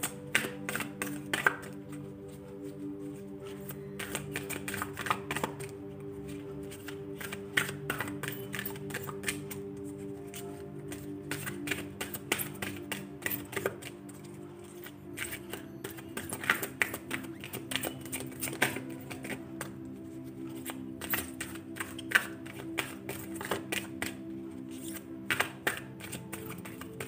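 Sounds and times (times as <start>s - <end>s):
background music with held notes: 0.0s - 27.0s
cards being shuffled: 0.0s - 27.0s.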